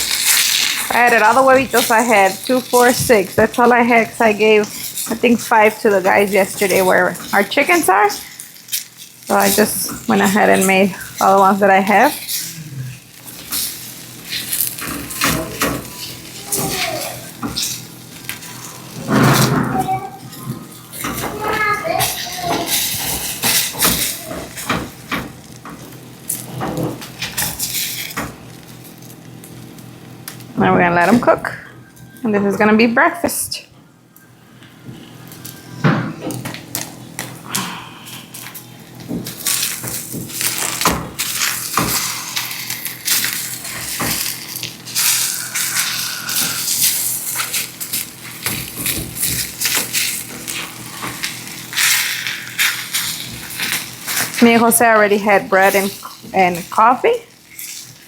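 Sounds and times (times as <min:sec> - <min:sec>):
food sizzling in a pot: 0:00.0 - 0:30.5, 0:38.2 - 0:58.0.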